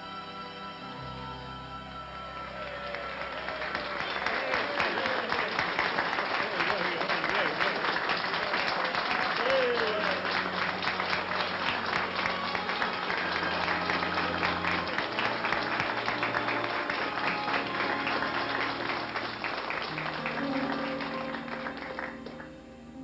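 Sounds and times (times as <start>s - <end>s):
band playing held chords: 0.0s - 23.0s
audience applauding: 2.1s - 22.7s.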